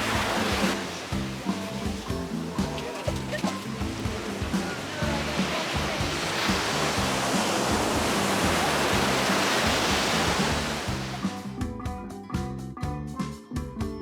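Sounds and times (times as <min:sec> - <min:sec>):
ocean surf washing in: 0:00.0 - 0:11.5
music with a steady beat: 0:00.0 - 0:14.0.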